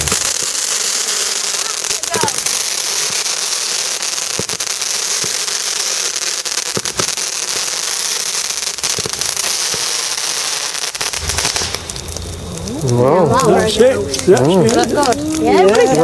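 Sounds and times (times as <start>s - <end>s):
firework crackling: 0.0s - 16.0s
firework hissing: 0.0s - 16.0s.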